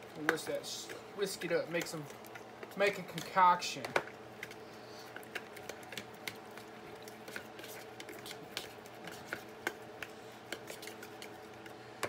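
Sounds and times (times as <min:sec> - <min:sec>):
faint steady hum: 0:00.0 - 0:12.0
fork whisking in a bowl: 0:00.0 - 0:12.0.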